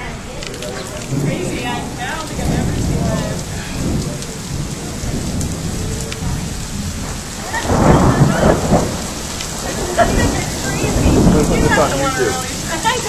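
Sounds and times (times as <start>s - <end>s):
rain falling: 0.0s - 13.0s
rumble of thunder: 0.0s - 13.0s.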